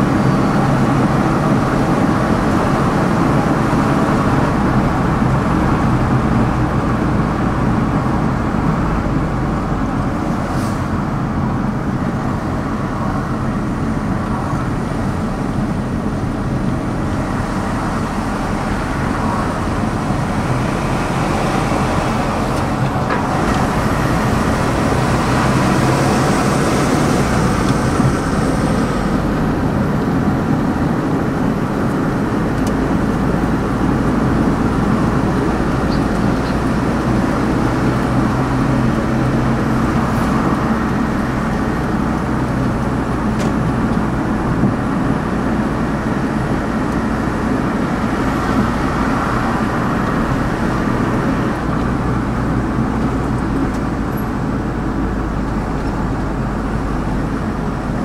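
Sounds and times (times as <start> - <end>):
low engine hum: 0.0 - 58.0
tyre roar on asphalt: 0.0 - 58.0.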